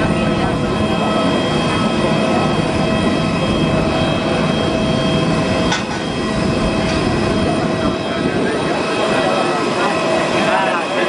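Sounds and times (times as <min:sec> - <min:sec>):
jet turbine whine and rumble: 0:00.0 - 0:11.0.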